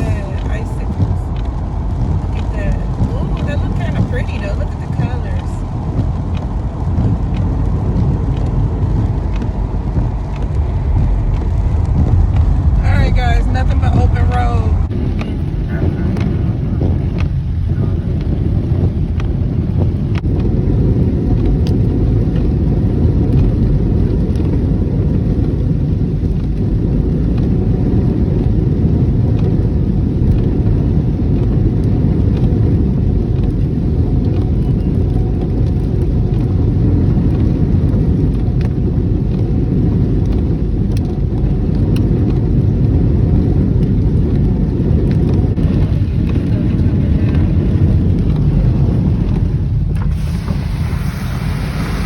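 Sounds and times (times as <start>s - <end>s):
car interior road rumble: 0.0s - 52.0s.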